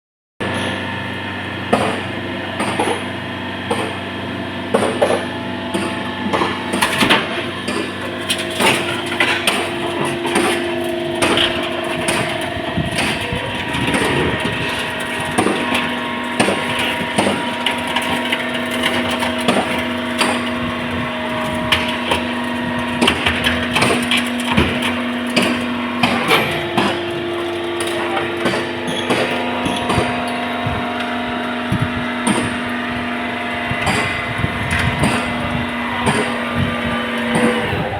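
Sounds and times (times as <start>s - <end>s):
hydraulic pump hum: 0.4s - 37.9s
metal being crushed: 4.8s - 37.9s.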